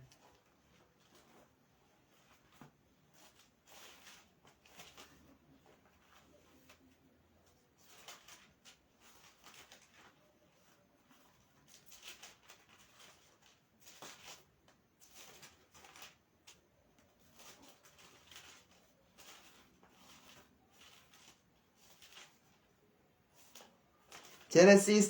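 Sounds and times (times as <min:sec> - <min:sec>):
faint rustles and scrapes: 0:00.0 - 0:25.0.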